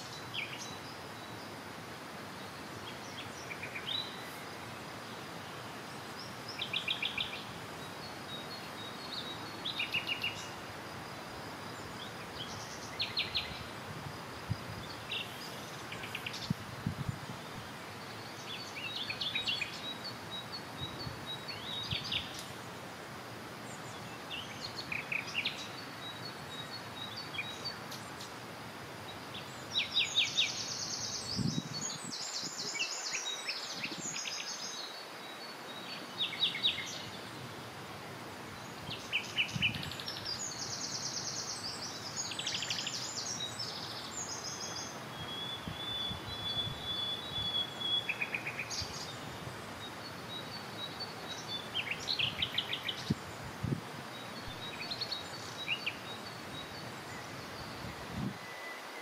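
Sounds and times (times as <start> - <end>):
outdoor background hiss: 0.0 - 59.0
songbirds chirping and trilling: 0.0 - 59.0.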